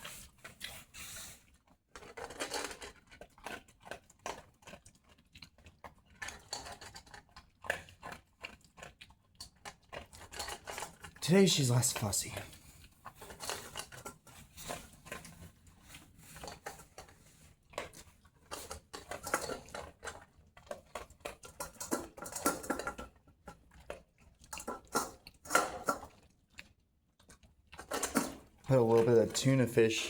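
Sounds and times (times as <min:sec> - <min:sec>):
dog crunching kibble: 0:00.0 - 0:30.0
kibble rattling in bowl: 0:01.9 - 0:26.6, 0:27.2 - 0:30.0.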